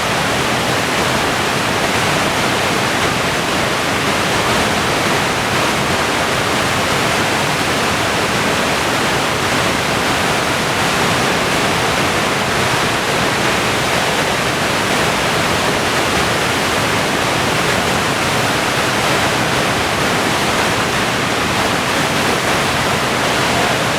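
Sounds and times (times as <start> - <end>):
whitewater rushing through rapids: 0.0 - 23.9.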